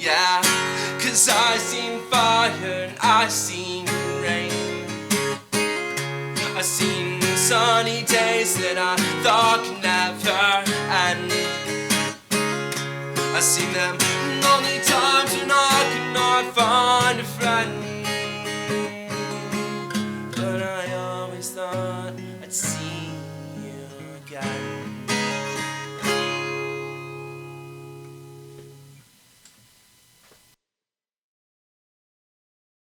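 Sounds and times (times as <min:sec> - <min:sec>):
acoustic guitar picking and strumming: 0:00.0 - 0:29.1.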